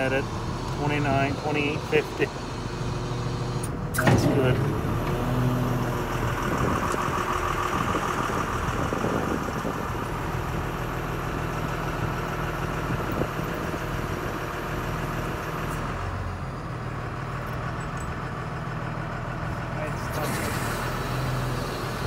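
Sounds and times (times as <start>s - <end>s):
drill rig engine idling: 0.0s - 22.0s.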